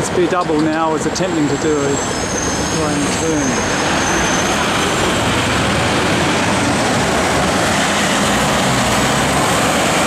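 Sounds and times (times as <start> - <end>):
truck engine: 0.0 - 10.0
cars passing close by: 1.4 - 10.0.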